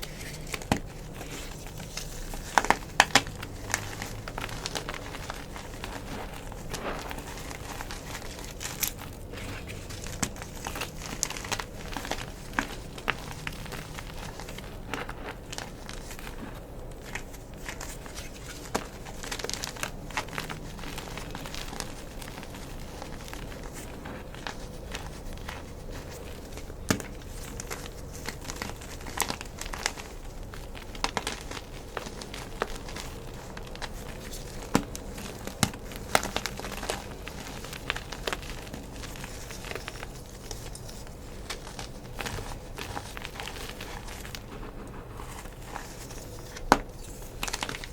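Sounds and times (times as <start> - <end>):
chalk crushed by hand: 0.0 - 47.9.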